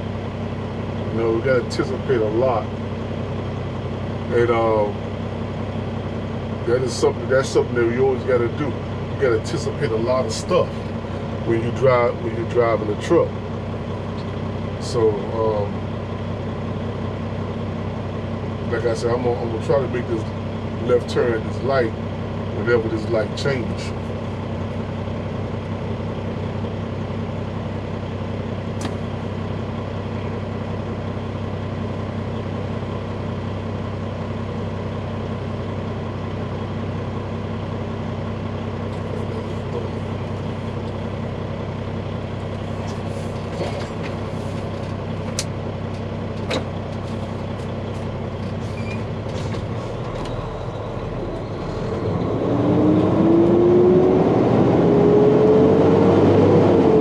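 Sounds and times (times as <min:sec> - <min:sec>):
diesel truck engine: 0:00.0 - 0:57.0.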